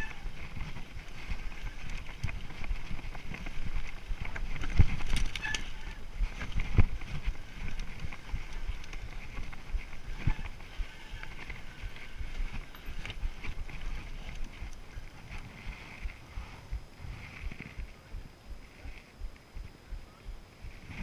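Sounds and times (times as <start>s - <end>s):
bike rattling: 0.0s - 19.2s
bike tyres rolling over dirt: 0.0s - 21.0s.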